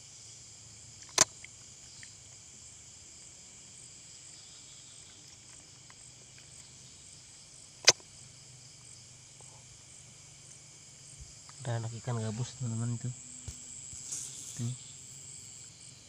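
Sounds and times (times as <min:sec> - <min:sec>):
night insects chirping: 0:00.0 - 0:16.0.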